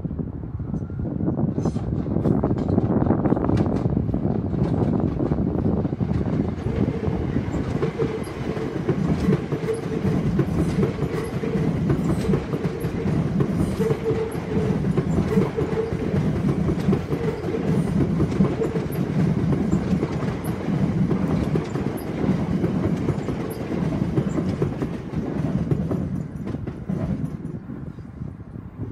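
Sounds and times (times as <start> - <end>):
train wheels clickety-clack: 1.5 - 28.0.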